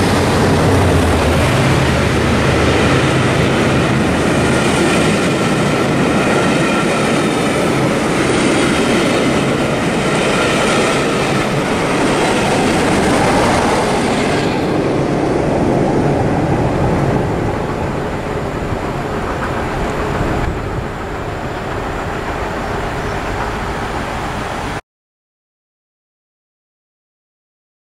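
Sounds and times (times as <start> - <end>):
low train rumble: 0.0 - 24.8
train passing at speed: 0.0 - 24.8.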